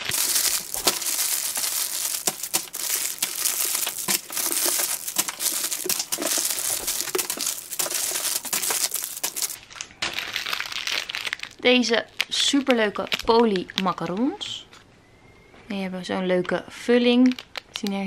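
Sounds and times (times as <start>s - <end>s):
plastic wrappers crinkling: 0.0s - 14.5s, 17.2s - 17.9s.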